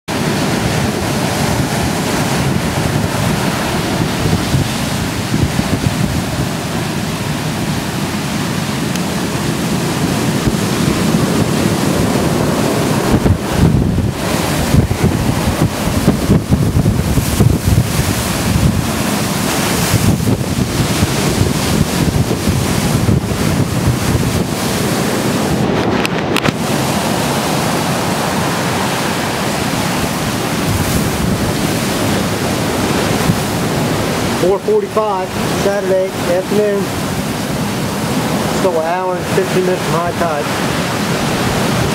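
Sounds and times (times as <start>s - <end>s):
storm surf surging: 0.1s - 41.9s
wind buffeting microphone: 0.1s - 41.9s.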